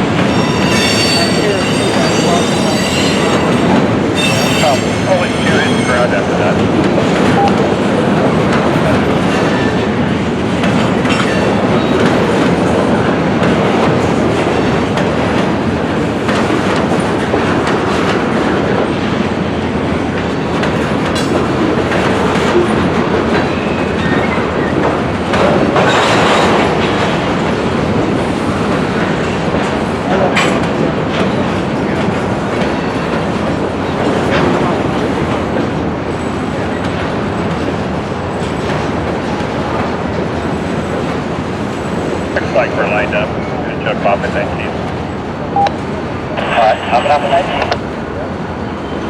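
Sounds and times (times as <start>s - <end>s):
freight cars rumbling on track: 0.0s - 49.0s.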